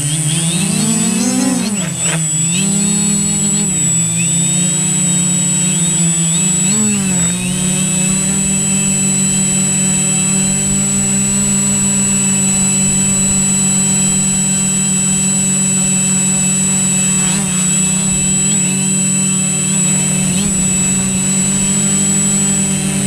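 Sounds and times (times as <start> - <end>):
drone propellers buzzing: 0.0 - 23.0.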